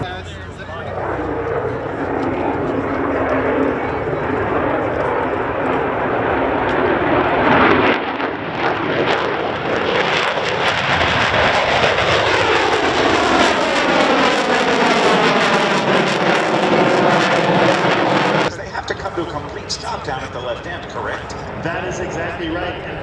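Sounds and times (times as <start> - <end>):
aircraft flying past: 0.0 - 23.0.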